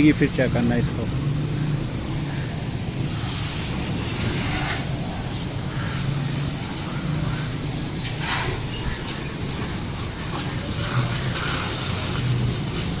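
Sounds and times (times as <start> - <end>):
steady low hum: 0.0 - 13.0
water spray hissing: 0.0 - 13.0.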